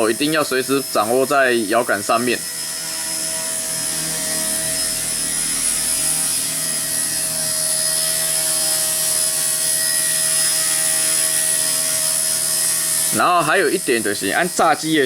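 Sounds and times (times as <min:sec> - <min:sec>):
toy helicopter rotor whine: 0:00.0 - 0:15.0.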